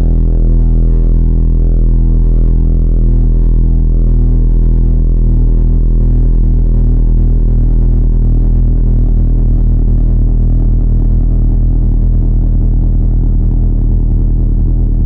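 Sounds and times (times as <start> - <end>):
deep synthesized bass drone: 0.0 - 15.0.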